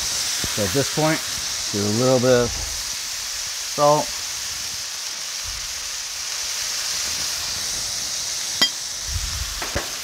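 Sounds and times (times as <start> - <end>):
burger patties sizzling on griddle: 0.0 - 10.0.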